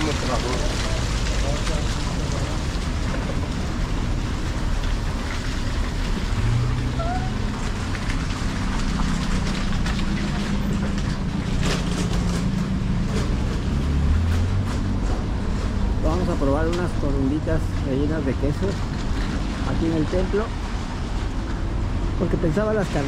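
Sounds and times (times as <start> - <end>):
low street rumble: 0.0 - 23.0.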